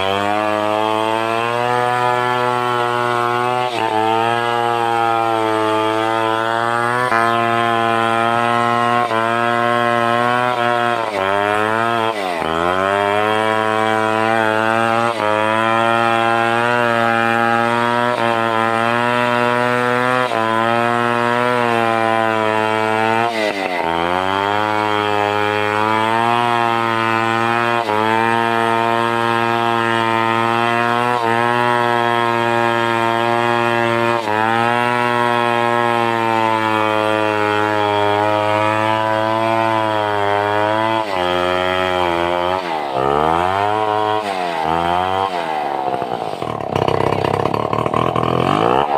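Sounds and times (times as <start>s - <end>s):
chainsaw cutting timber: 0.0s - 48.9s.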